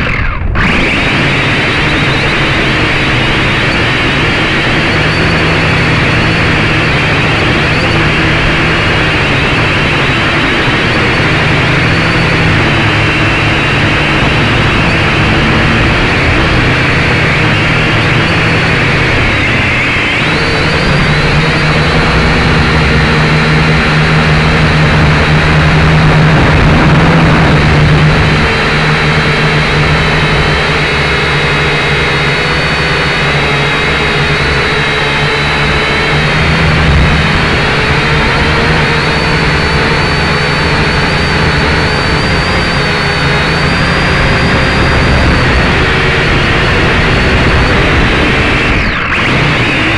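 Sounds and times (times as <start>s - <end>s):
drone motors humming: 0.0s - 49.9s
high propeller whine: 0.0s - 49.9s.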